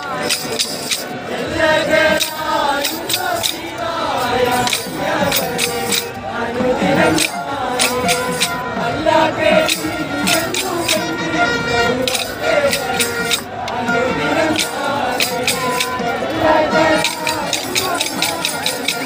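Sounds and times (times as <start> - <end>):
crowd noise: 0.0 - 19.0
group singing: 0.0 - 19.0
sharp percussive beat: 0.0 - 19.0.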